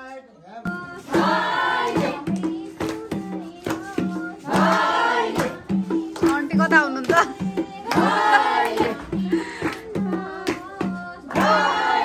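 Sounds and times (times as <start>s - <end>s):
women singing in chorus: 0.7s - 12.0s
hand clapping: 1.1s - 9.0s, 9.6s - 11.8s.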